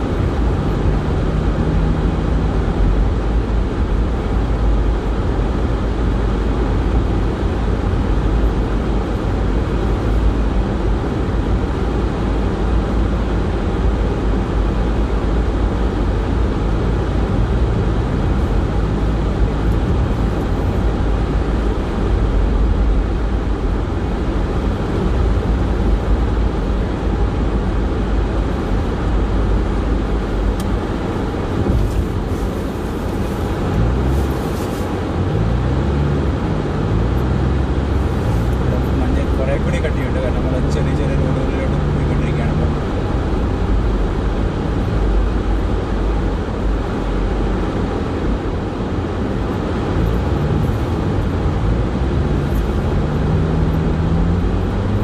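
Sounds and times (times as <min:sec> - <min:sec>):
car driving on snow: 0:00.0 - 0:55.0.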